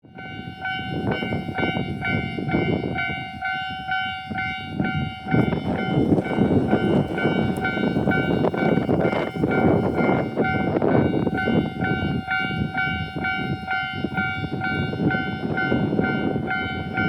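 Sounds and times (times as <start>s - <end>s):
level crossing warning bell: 0.0s - 17.0s
train rumble: 0.0s - 17.0s.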